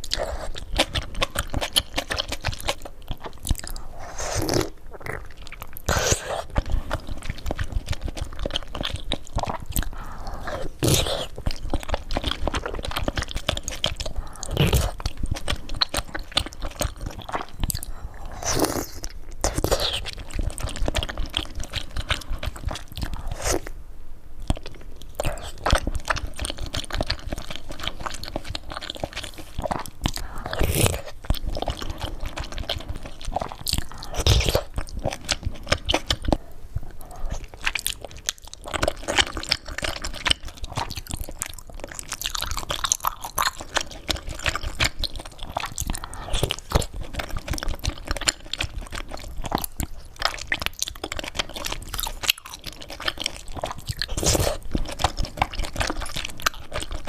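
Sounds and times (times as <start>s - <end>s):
person chewing crunchy food: 0.0s - 23.8s, 24.4s - 57.0s.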